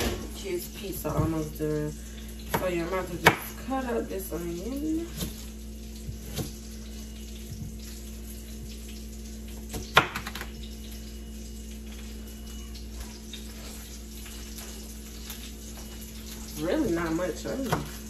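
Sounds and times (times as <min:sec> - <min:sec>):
fish sizzling in oil: 0:03.5 - 0:18.0.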